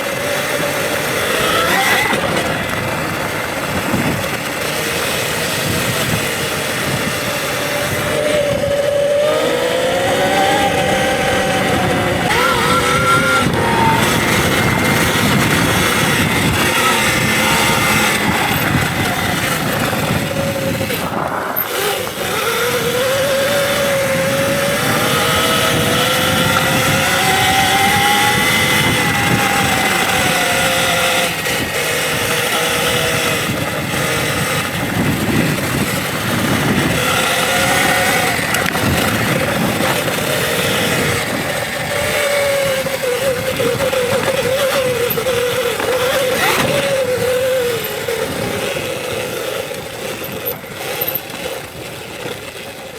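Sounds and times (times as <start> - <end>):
electric motor whining: 0.0 - 52.9.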